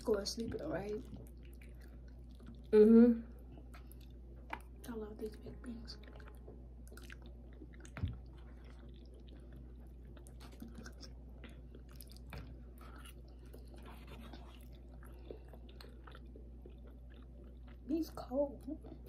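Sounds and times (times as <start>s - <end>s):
people chewing: 0.1s - 19.0s.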